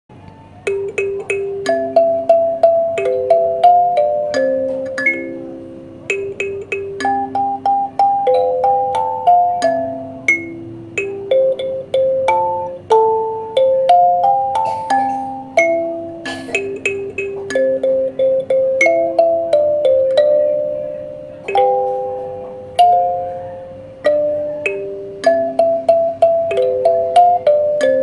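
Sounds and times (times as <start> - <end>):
kalimba melody: 0.6 - 28.0.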